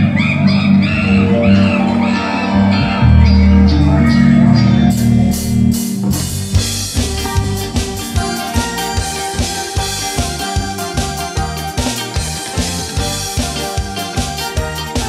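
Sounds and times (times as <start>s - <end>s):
live rock band playing: 0.0s - 15.0s
drum kit: 2.8s - 15.0s.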